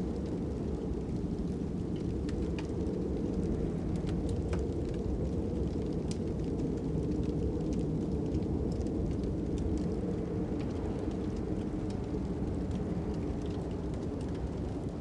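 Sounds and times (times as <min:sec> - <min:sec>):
fire crackling and popping: 0:00.0 - 0:15.0
low rumble of wind: 0:00.0 - 0:15.0.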